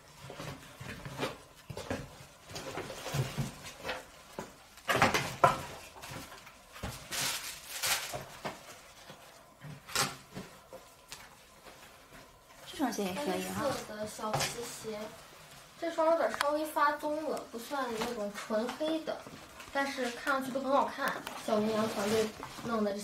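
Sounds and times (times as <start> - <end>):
paper and cardboard rustling: 0.0 - 23.0.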